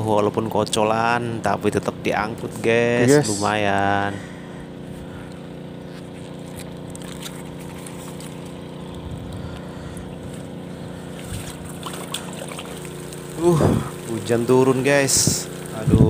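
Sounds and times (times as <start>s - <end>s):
motor droning: 0.0s - 16.0s.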